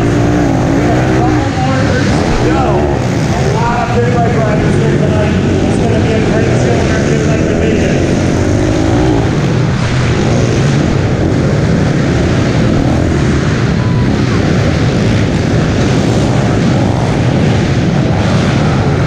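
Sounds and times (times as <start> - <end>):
motorbike engine under throttle: 0.0 - 19.0.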